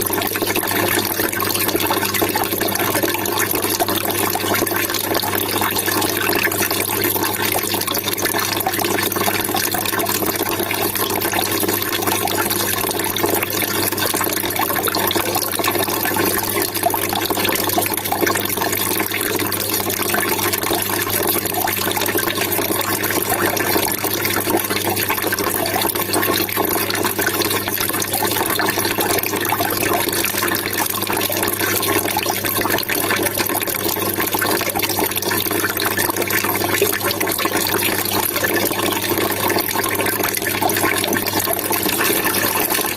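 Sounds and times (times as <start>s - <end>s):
water trickling and splashing: 0.0s - 42.9s.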